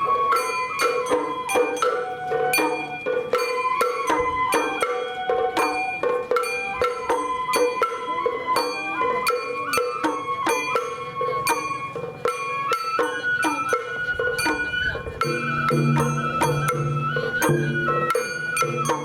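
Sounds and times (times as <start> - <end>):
bamboo flute melody: 0.0 - 19.0
drum strikes: 0.2 - 19.0.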